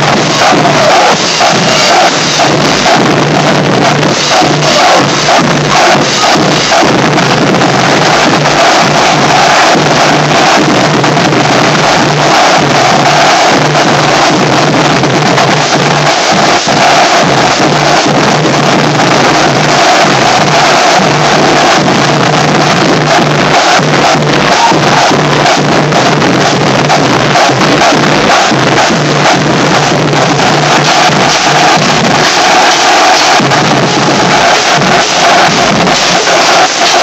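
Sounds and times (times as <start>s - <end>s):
crash cymbals: 0.0s - 37.0s
snare drums: 0.0s - 37.0s.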